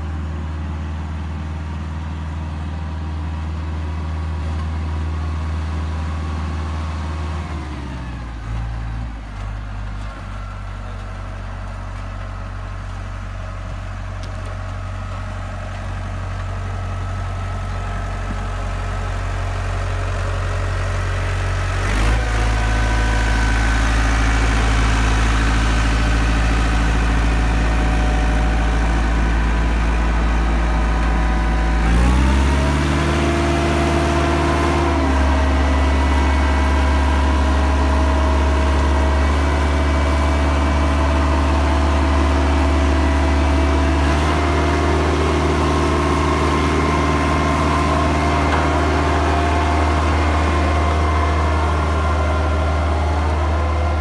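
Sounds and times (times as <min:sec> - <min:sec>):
road roller diesel engine: 0:00.0 - 0:54.0.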